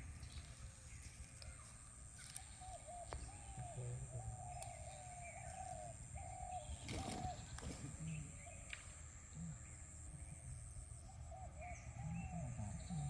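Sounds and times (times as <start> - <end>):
bird low hooting: 0.0 - 13.0.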